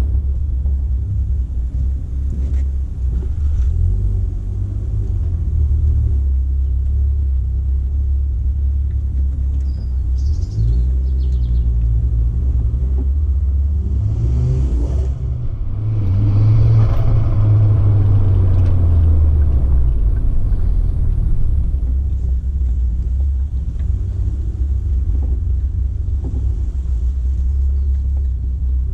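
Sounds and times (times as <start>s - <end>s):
car engine rumbling: 0.0s - 28.9s.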